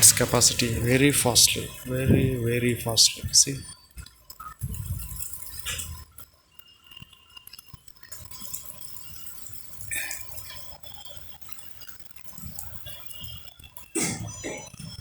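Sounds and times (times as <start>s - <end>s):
rain dripping and splashing: 0.0s - 15.0s.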